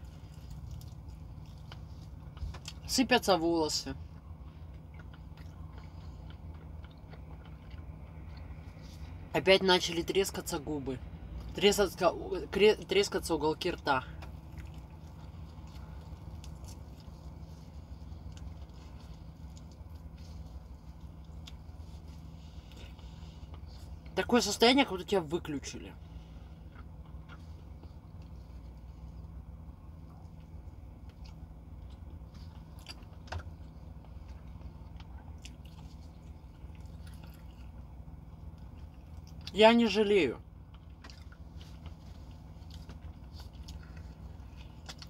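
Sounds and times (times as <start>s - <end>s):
chewing crispy fried chicken: 0.0s - 3.2s, 3.9s - 9.3s, 12.8s - 24.3s, 26.0s - 45.0s
vehicle cab hum: 0.0s - 45.0s.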